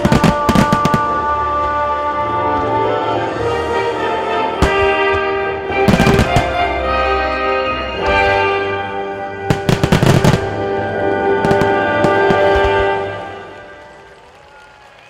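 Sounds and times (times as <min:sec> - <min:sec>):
orchestral music: 0:00.0 - 0:15.0.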